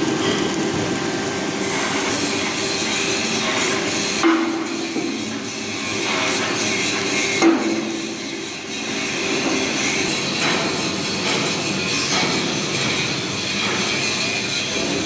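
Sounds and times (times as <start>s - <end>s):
welding arc crackling buzz: 0.0s - 15.0s.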